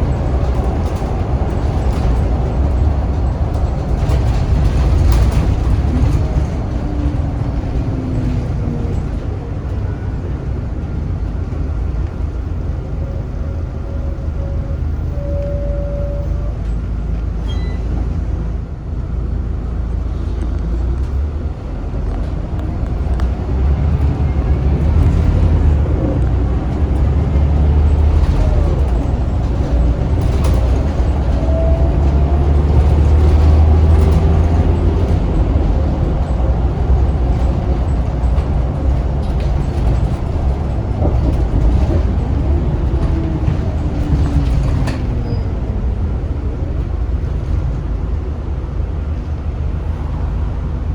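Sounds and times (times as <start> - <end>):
bus diesel engine rumbling: 0.0 - 50.9.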